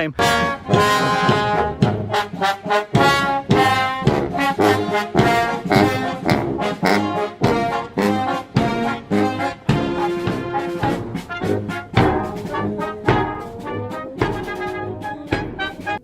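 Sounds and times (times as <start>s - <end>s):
brass music with steady beat: 0.0s - 16.0s.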